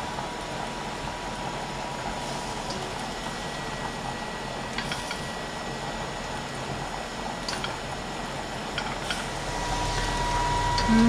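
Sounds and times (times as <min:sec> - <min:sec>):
pot of water boiling: 0:00.0 - 0:11.0.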